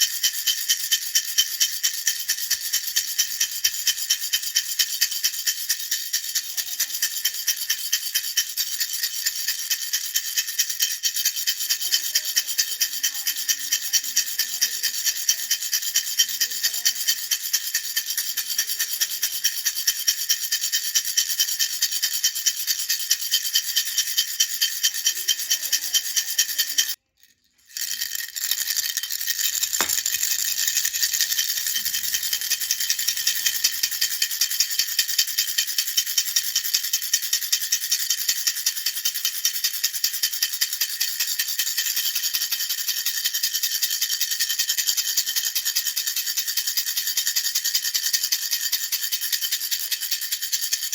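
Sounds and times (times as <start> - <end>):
baby rattle shaken: 0.0 - 50.9.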